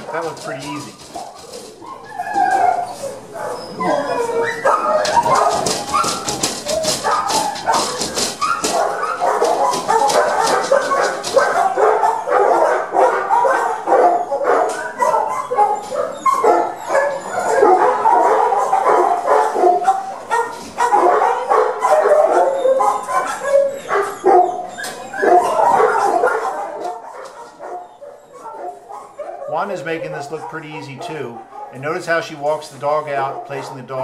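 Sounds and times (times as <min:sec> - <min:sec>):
many dogs barking and yipping: 0:00.0 - 0:34.0.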